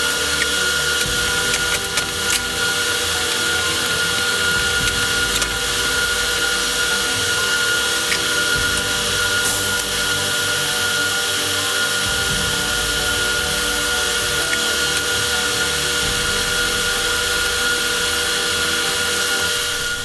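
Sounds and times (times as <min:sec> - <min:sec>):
thin steady whine: 0:00.0 - 0:20.0
welder crackling hiss: 0:00.0 - 0:20.0.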